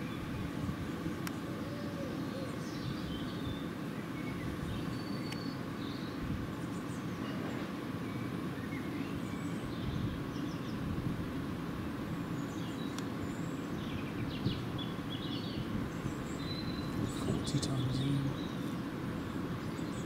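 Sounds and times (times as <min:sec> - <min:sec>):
small birds chirping: 0:00.0 - 0:11.0, 0:11.7 - 0:20.0.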